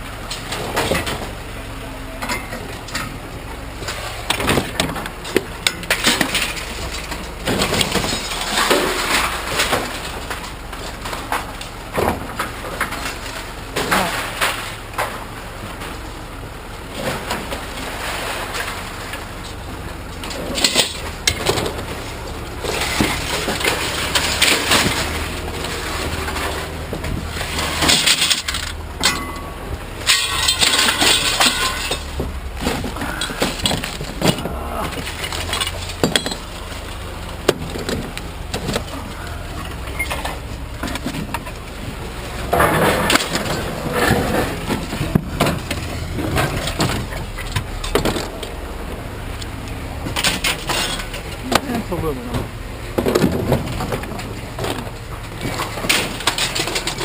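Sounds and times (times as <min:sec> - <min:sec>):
scrap metal clanking onto a pile: 0:00.2 - 0:16.1, 0:16.8 - 0:48.6, 0:49.4 - 0:57.0.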